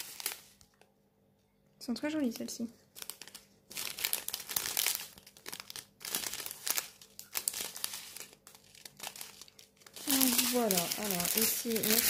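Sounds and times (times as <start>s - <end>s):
plastic bags crinkling: 0.0s - 0.8s, 2.2s - 12.0s.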